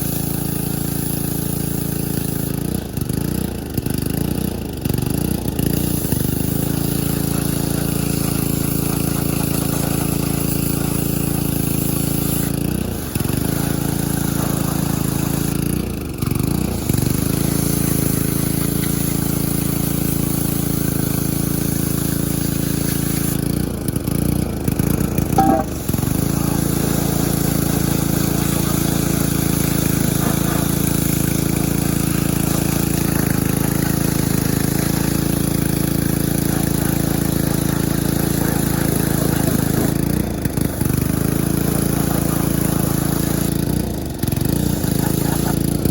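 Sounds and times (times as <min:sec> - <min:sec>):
pressure washer engine running: 0:00.0 - 0:45.9.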